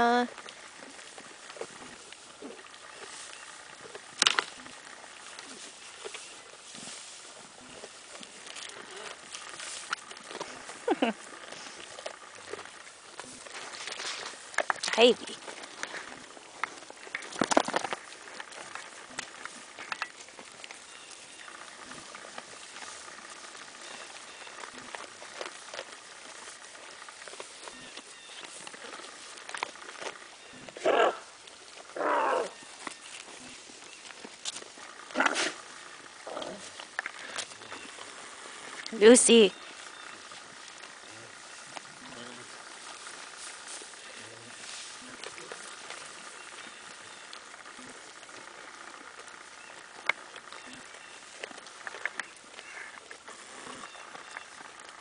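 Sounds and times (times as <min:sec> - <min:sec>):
hay rustling: 0:00.0 - 0:17.4, 0:18.0 - 0:55.0
goats chewing dry hay: 0:00.0 - 0:55.0.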